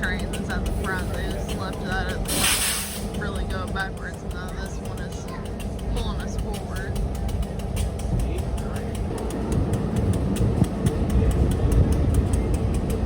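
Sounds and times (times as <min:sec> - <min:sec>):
fast even clicks of train wheels: 0:00.0 - 0:13.0
train rumbling on track: 0:00.0 - 0:13.0.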